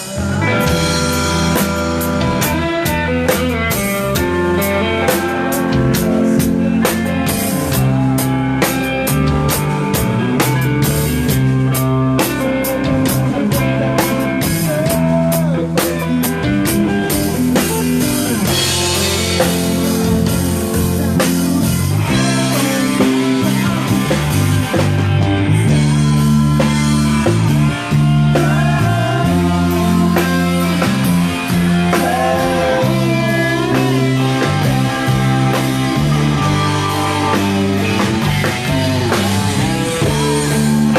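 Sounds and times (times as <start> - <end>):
bass line: 0.0 - 40.9
drum kit: 0.0 - 40.9
electric guitar: 0.0 - 40.9.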